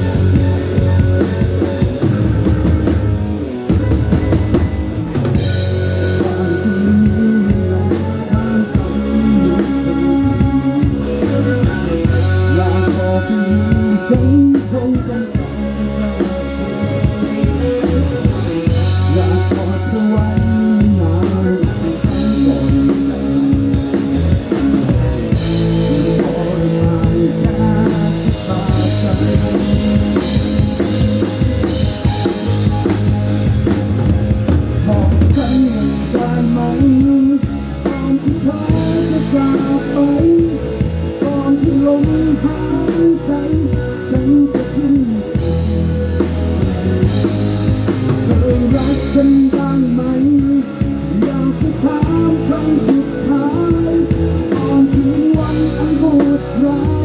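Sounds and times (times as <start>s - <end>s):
drum kit beat: 0.0s - 57.0s
rock band playing live: 0.0s - 57.0s.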